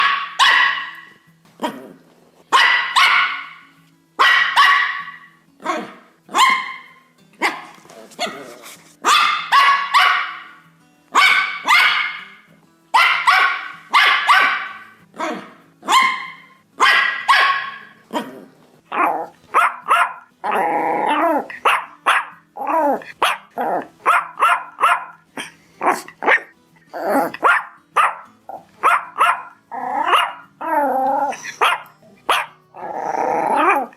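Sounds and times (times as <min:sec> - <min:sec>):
dog barking: 0:00.0 - 0:01.8, 0:02.5 - 0:12.4, 0:13.0 - 0:18.3, 0:18.9 - 0:20.3, 0:21.1 - 0:26.6, 0:27.2 - 0:30.5, 0:31.3 - 0:32.6.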